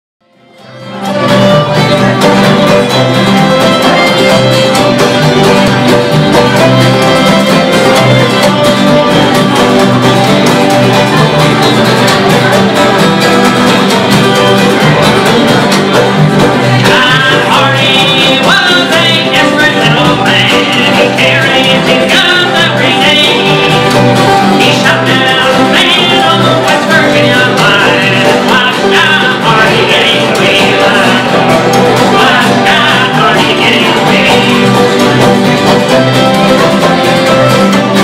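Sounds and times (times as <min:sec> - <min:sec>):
fiddle: 0:00.2 - 0:38.0
strummed acoustic guitar: 0:00.3 - 0:38.0.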